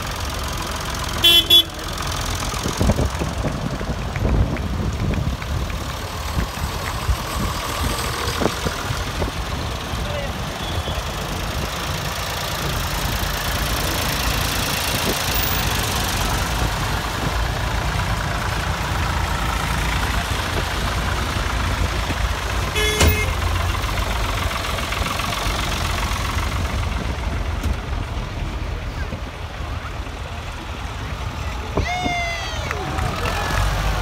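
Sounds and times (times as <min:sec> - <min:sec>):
tractor engines running: 0:00.0 - 0:34.0.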